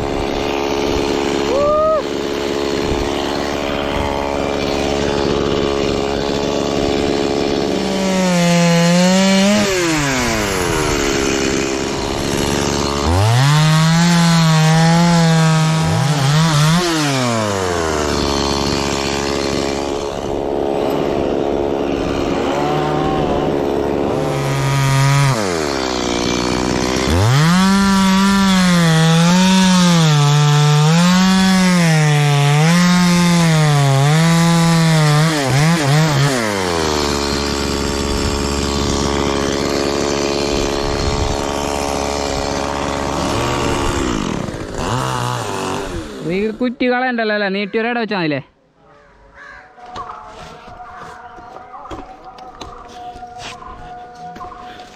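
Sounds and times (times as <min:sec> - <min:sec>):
chainsaw cutting through wood: 0:00.0 - 0:47.0, 0:51.9 - 0:54.9.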